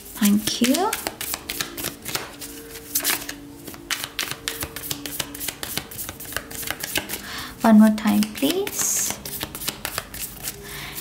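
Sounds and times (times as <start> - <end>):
cards being shuffled: 0.0 - 7.3, 7.9 - 10.6
faint background music: 0.0 - 11.0.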